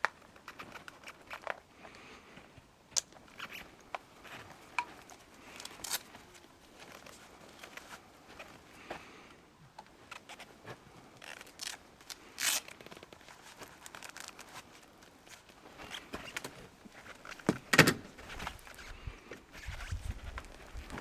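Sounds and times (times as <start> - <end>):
gear clicks and rustles: 0.0 - 9.0, 9.7 - 21.0.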